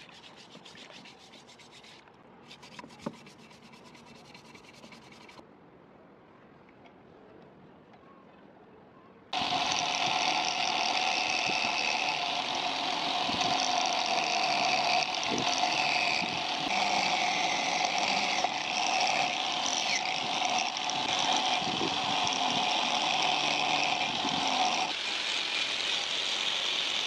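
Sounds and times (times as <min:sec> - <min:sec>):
angle grinder with wire brush: 0:00.0 - 0:05.4, 0:09.4 - 0:27.0.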